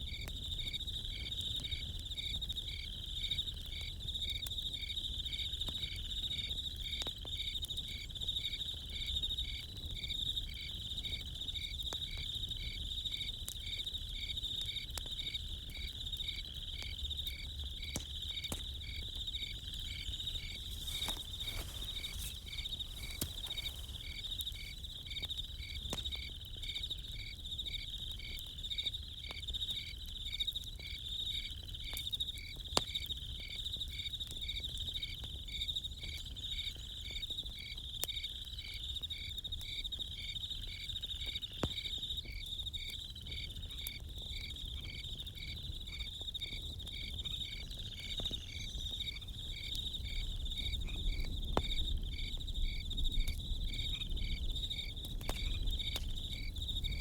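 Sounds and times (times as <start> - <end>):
crickets chirping: 0.0 - 57.0
high insect trill: 0.1 - 28.8, 36.4 - 57.0
campfire popping: 0.1 - 33.8, 40.4 - 57.0.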